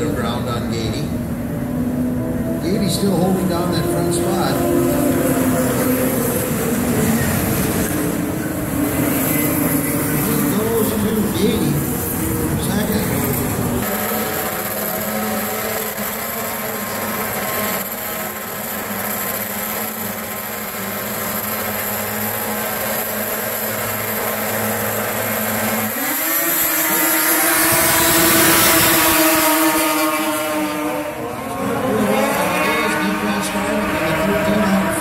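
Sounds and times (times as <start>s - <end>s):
snowmobile engines revving: 0.0s - 35.0s.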